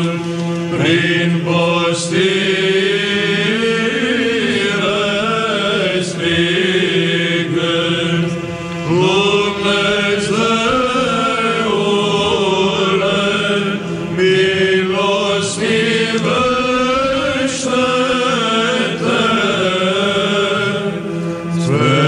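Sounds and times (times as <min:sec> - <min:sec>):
low vocal drone: 0:00.0 - 0:22.0
person chanting slow melody: 0:00.0 - 0:22.0.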